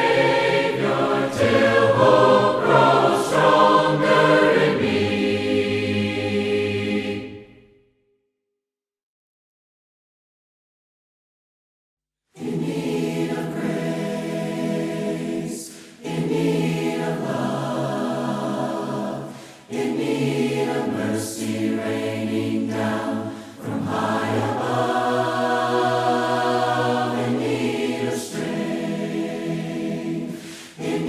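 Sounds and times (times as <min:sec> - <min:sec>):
choir singing a cappella: 0:00.0 - 0:07.8, 0:12.4 - 0:31.0.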